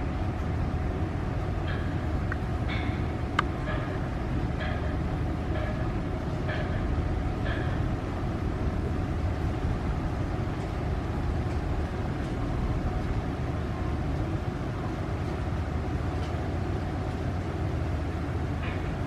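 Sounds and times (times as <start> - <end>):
ship diesel engine rumble: 0.0 - 19.0.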